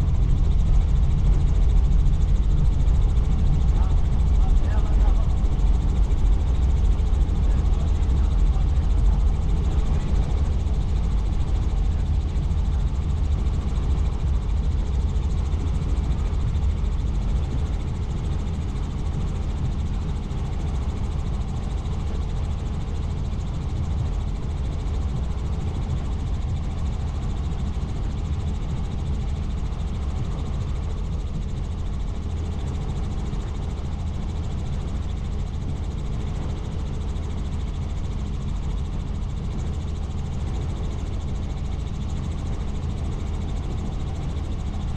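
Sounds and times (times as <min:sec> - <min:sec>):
helicopter engine and rotor: 0:00.0 - 0:44.9.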